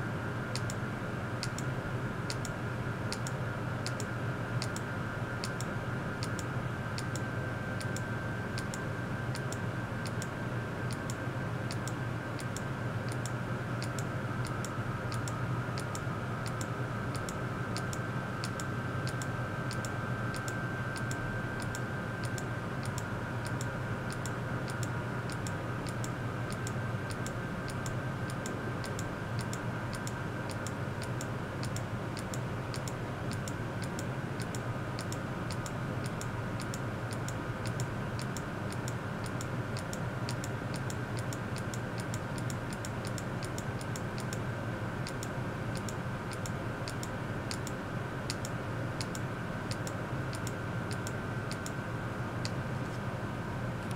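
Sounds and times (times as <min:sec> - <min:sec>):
steady electrical hum: 0:00.0 - 0:53.9
light regular ticks: 0:00.5 - 0:00.8, 0:01.4 - 0:01.7, 0:02.3 - 0:51.8.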